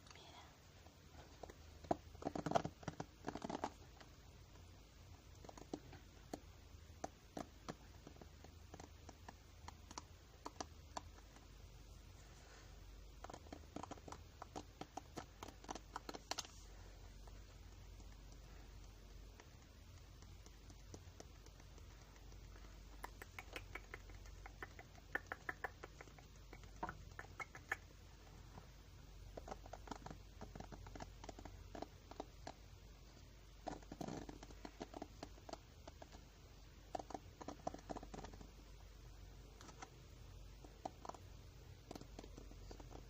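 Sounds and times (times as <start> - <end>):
light tapping and scratching: 0.0 - 43.0.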